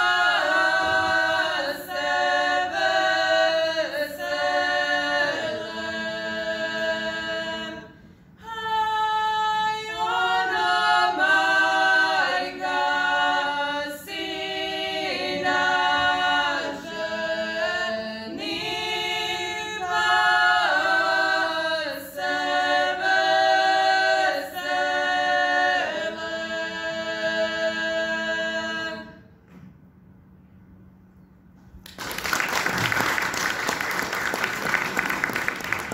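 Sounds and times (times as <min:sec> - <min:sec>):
women singing a cappella: 0:00.0 - 0:29.4.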